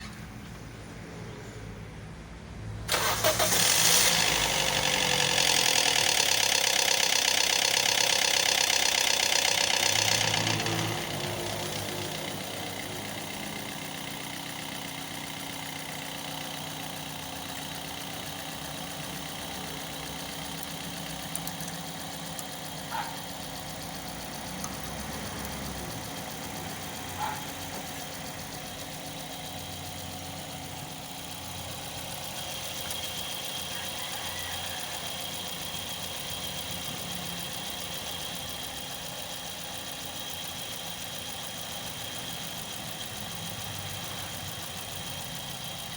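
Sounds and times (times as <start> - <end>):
car engine idling: 2.9 - 45.9.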